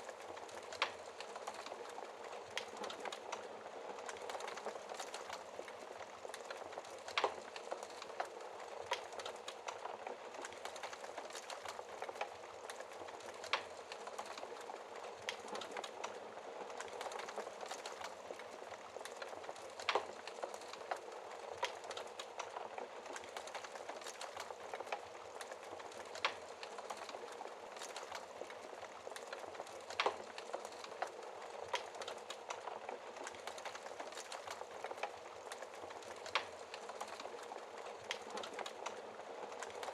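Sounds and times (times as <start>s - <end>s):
wood fire hissing and crackling: 0.0s - 39.9s.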